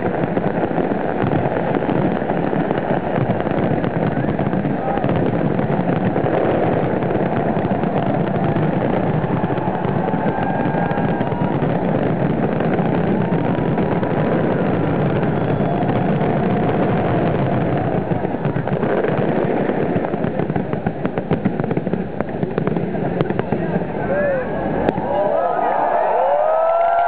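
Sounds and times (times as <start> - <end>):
fireworks crackling bangs: 0.0 - 27.0
fireworks rumble: 0.0 - 27.0.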